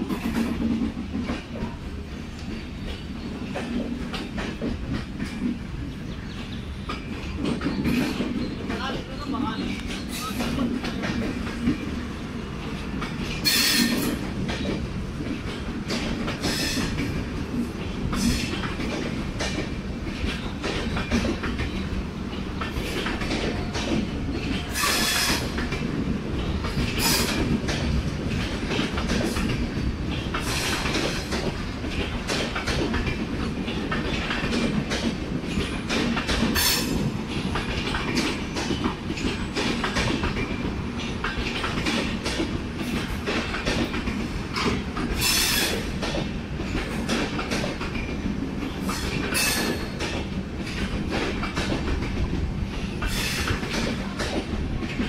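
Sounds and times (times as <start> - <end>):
train coaches rumbling past: 0.0 - 55.0
wheels clacking over rail joints: 0.0 - 55.0.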